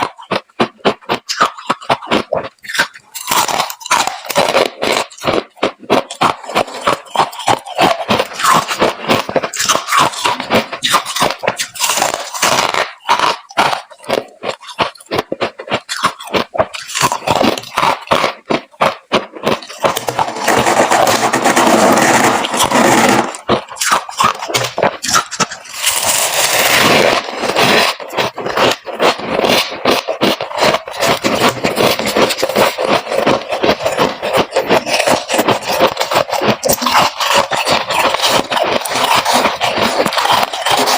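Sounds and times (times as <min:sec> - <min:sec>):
frost being crunched and chewed: 0:00.0 - 0:40.9.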